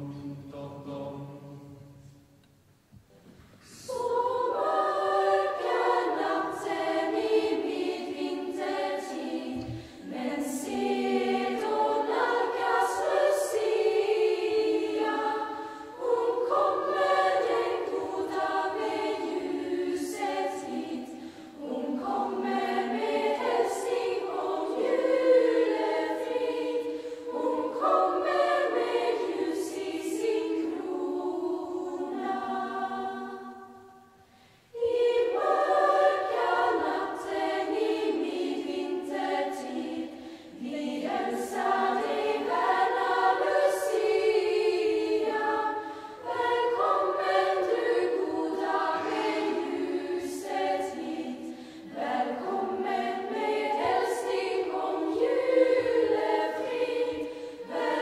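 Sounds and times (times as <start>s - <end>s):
choir singing: 0.0s - 2.4s, 3.6s - 58.0s.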